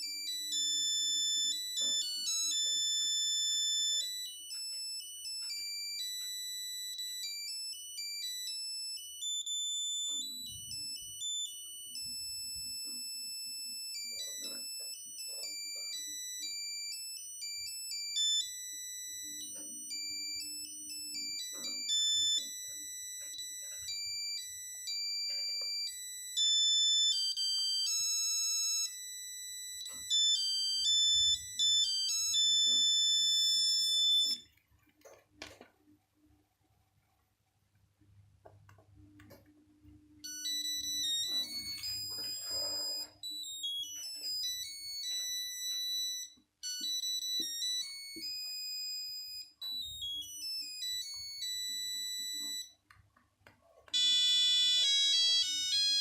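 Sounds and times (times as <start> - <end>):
monophonic phone ringtone: 0.0 - 35.6, 40.0 - 52.9, 53.7 - 56.0.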